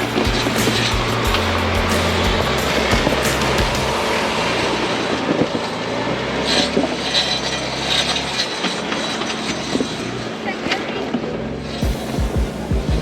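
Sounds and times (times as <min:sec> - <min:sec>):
engine running low: 0:00.0 - 0:13.0
sharp cracks: 0:00.0 - 0:13.0
tyres crunching over rocks: 0:00.0 - 0:13.0.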